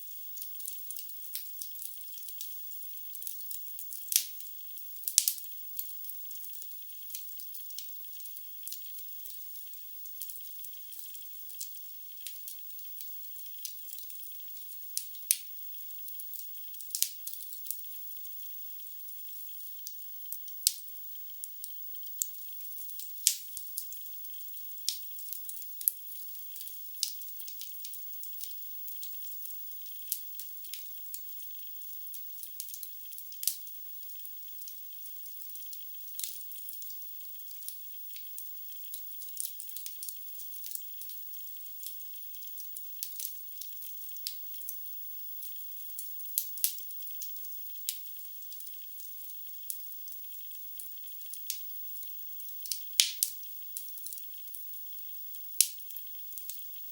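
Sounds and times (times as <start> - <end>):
faint steady hiss: 0.0 - 56.9.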